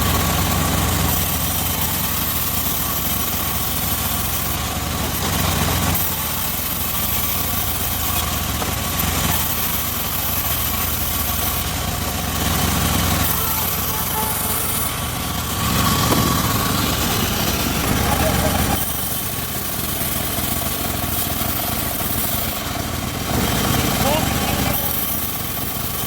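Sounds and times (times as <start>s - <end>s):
saw engine humming: 0.0s - 26.0s.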